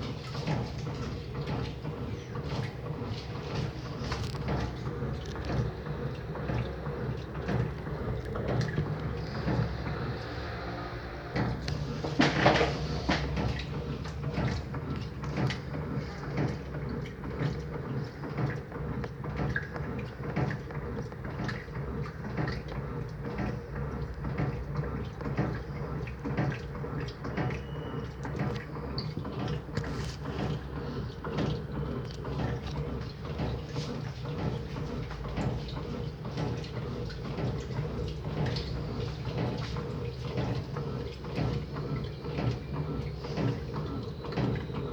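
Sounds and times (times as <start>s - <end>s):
washing machine knocks and clatters: 0.0s - 44.9s
washing machine motor hum: 0.0s - 44.9s.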